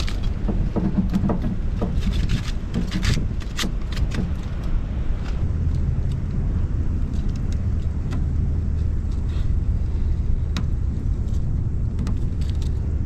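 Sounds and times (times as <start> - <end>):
light clicks and rattles: 0.0 - 13.0
vehicle road and engine rumble: 0.0 - 13.0.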